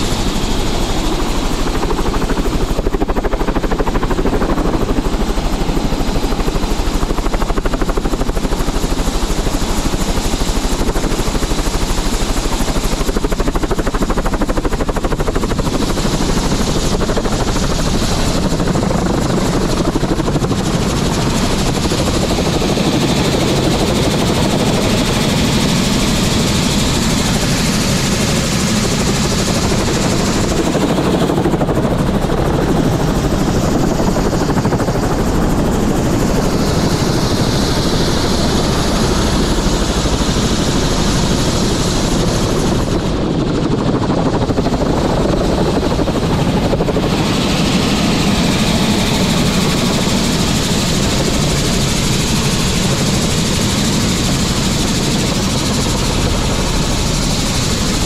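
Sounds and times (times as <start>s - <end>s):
helicopter running: 0.0s - 58.0s.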